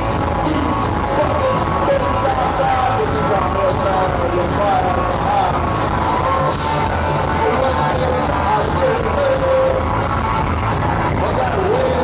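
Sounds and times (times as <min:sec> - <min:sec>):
drums on a steady beat: 0:00.0 - 0:12.0
electric guitars: 0:00.0 - 0:12.0
psychobilly band playing live: 0:00.0 - 0:12.0
man singing lead vocal: 0:00.2 - 0:06.3, 0:07.2 - 0:10.1, 0:11.0 - 0:12.0.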